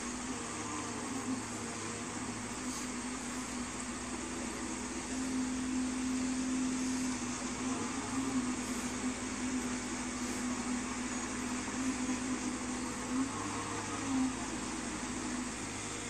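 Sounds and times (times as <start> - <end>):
weed harvester engine humming: 0.0 - 16.0.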